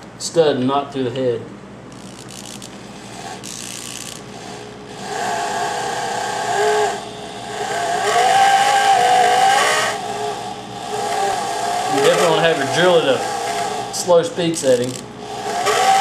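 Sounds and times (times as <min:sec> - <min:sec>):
cordless drill motor whining: 0:01.9 - 0:16.0.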